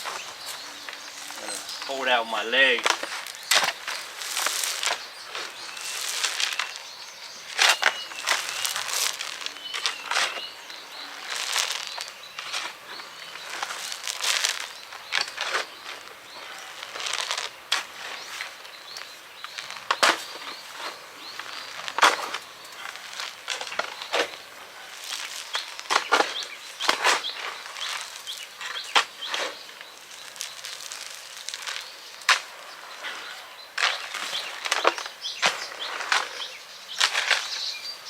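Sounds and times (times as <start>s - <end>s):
shovel scraping rock: 0.0s - 29.7s, 30.3s - 37.9s
rocks clattering: 0.0s - 37.8s.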